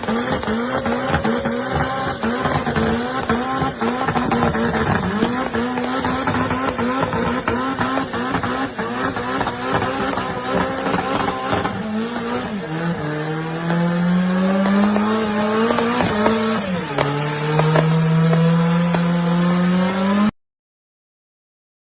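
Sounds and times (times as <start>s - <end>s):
car engine accelerating: 0.0s - 20.3s.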